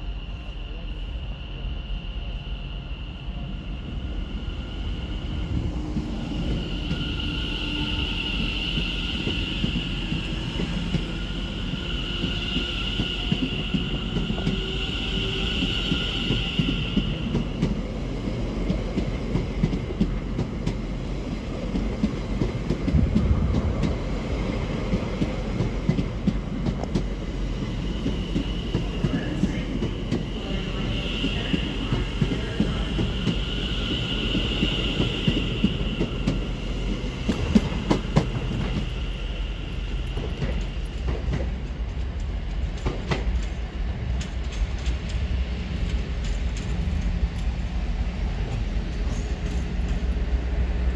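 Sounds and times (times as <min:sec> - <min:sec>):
high train whine: 0:00.0 - 0:50.9
train wheel rumble: 0:00.0 - 0:50.9.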